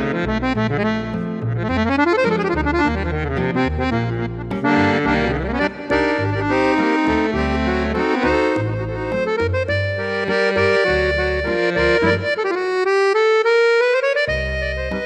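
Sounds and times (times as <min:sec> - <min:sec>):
accordion playing a tune: 0:00.0 - 0:15.0.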